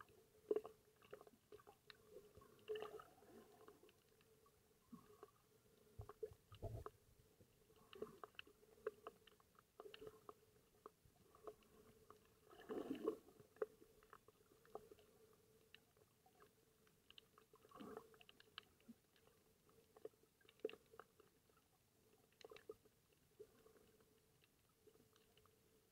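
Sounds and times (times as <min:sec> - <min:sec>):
muffled swishes of water: 0:00.0 - 0:25.9.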